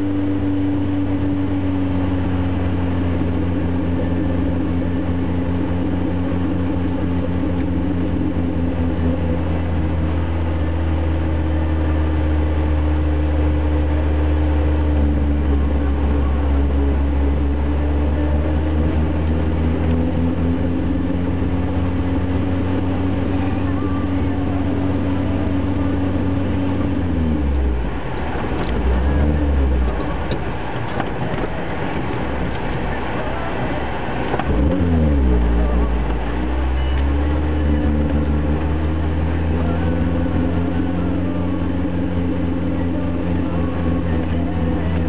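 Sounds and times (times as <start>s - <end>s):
engine running inside vehicle: 0.0s - 45.0s
road and tyre noise: 0.0s - 45.0s.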